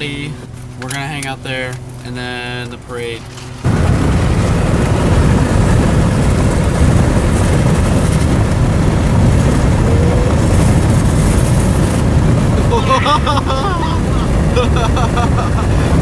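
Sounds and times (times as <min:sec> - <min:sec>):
vehicle rumble and wind noise: 0:00.0 - 0:16.0.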